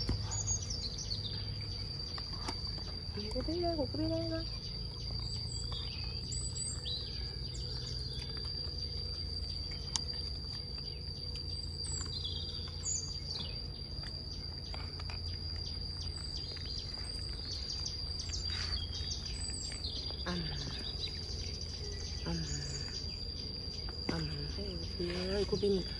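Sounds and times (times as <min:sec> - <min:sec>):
birds chirping: 0:00.0 - 0:25.9
high-pitched insect whine: 0:00.0 - 0:25.9.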